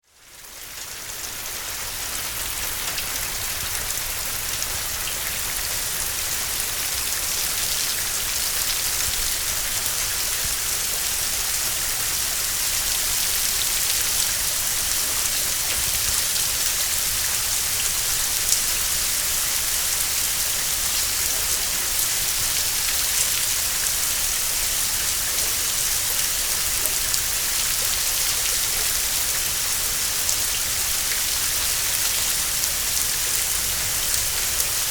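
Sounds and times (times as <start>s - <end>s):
heavy rain pouring: 0.3s - 34.9s.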